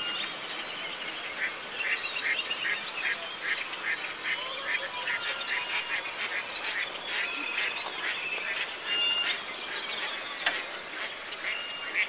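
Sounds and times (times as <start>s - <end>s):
waterfowl calling: 1.3s - 12.0s.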